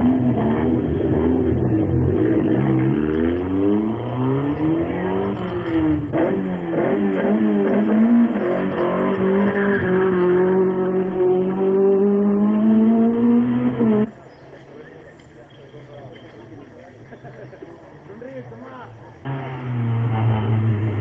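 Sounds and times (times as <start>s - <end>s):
rally car engines revving: 0.0s - 14.8s, 16.7s - 21.0s.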